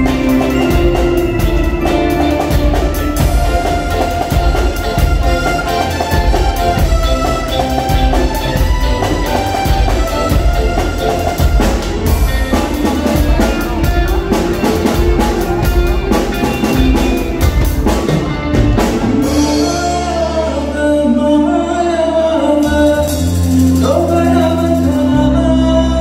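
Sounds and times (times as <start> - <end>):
live rock band: 0.0 - 26.0.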